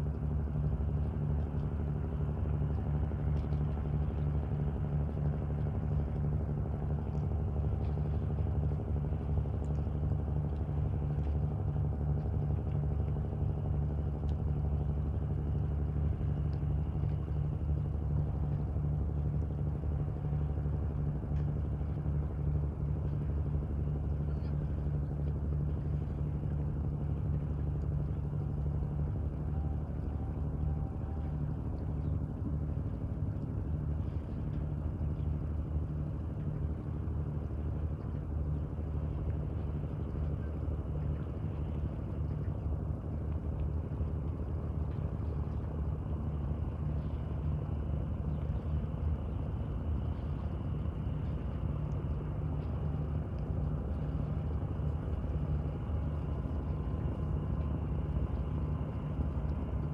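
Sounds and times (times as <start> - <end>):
diesel engine low drone: 0.0 - 59.9.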